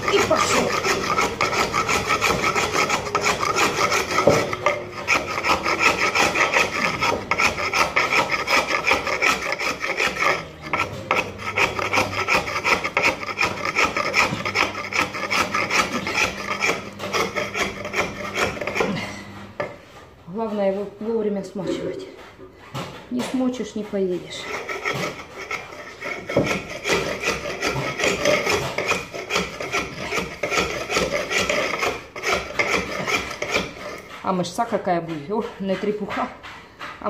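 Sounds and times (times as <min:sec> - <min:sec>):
hatchet scraping concrete floor: 0:00.0 - 0:37.0.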